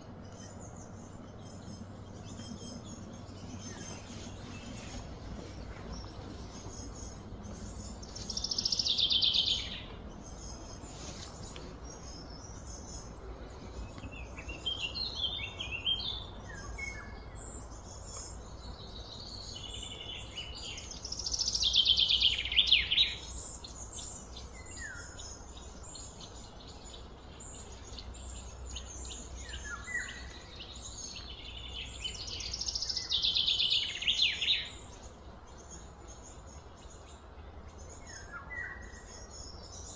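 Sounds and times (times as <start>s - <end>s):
low background rumble: 0.0s - 34.0s.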